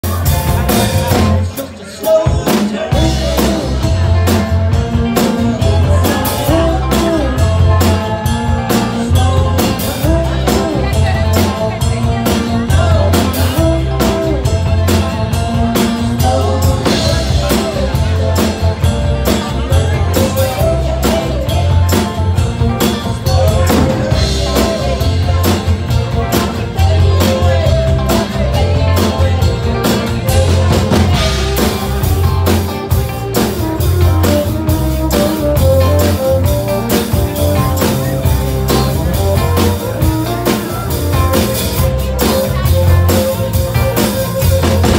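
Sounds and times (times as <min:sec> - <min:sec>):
drum kit: 0:00.0 - 0:44.9
electric bass: 0:00.0 - 0:44.9
keyboards: 0:00.0 - 0:44.9.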